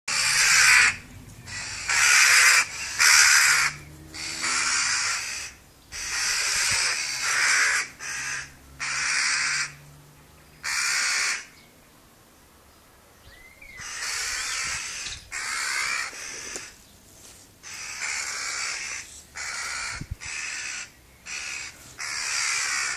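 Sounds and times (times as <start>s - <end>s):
birds harsh raspy calls: 0.1s - 11.8s, 13.2s - 17.0s, 17.6s - 22.9s.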